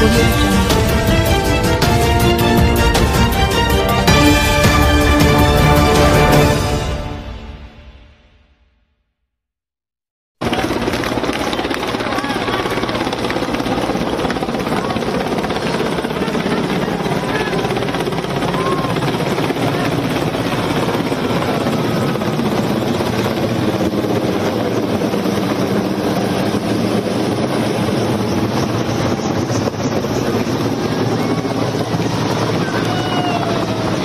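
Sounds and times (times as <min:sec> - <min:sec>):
helicopter flying overhead: 0:00.0 - 0:07.7, 0:10.4 - 0:34.0.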